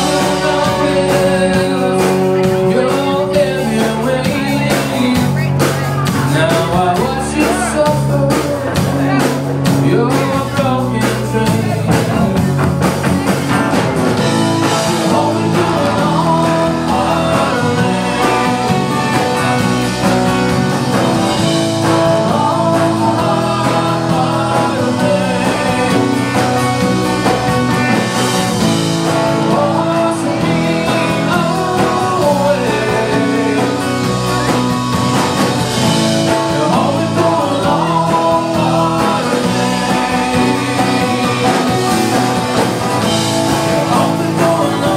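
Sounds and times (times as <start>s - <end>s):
acoustic guitar: 0.0s - 44.9s
bass guitar: 0.0s - 44.9s
drums: 0.0s - 44.9s
electric guitar: 0.0s - 44.9s
man singing: 0.0s - 44.9s.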